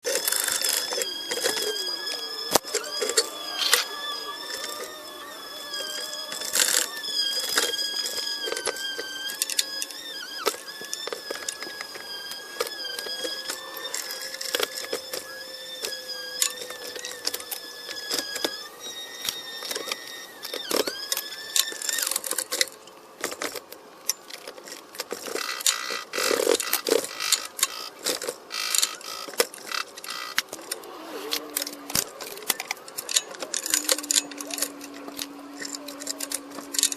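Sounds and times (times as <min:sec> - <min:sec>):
hand tools clicking and clattering: 0:00.0 - 0:36.9
steady wavering whine: 0:00.0 - 0:36.9.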